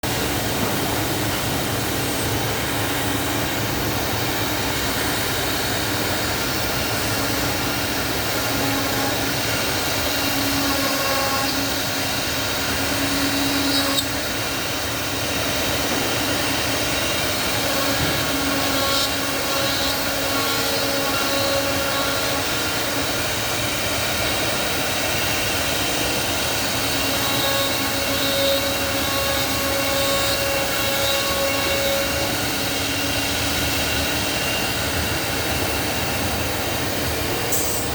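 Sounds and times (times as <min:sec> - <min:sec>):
machine motor running: 0:00.3 - 0:37.9.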